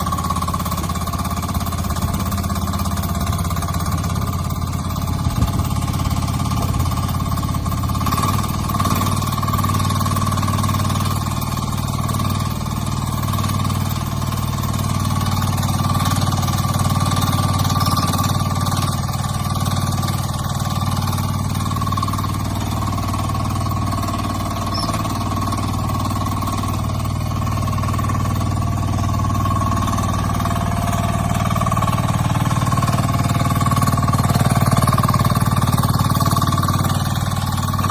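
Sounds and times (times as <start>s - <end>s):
excavator engine running: 0.0s - 37.9s.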